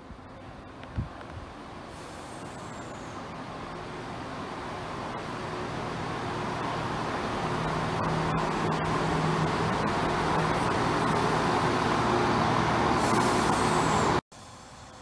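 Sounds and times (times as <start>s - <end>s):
diesel train running into station: 0.0s - 15.0s
train wheel and running noise: 0.0s - 15.0s
low engine hum: 0.4s - 14.2s.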